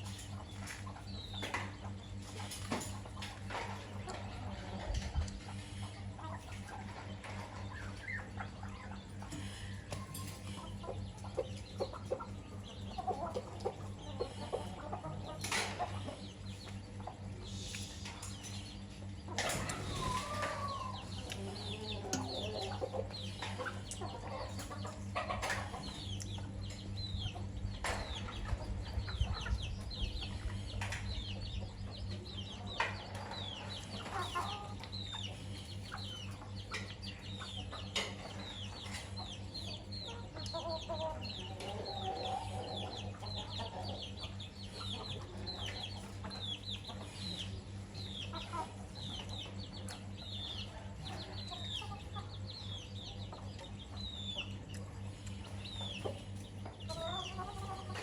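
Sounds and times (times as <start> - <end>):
chicks peeping: 0.0 - 58.0
hens clucking: 0.0 - 58.0.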